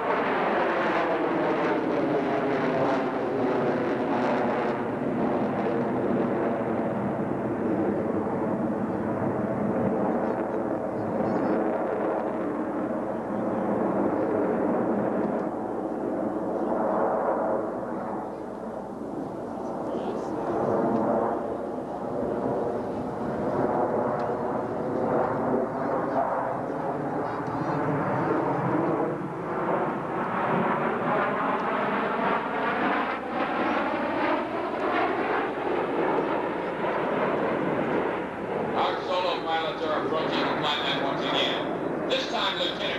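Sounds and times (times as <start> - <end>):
jet aircraft roar overhead: 0.0 - 42.9.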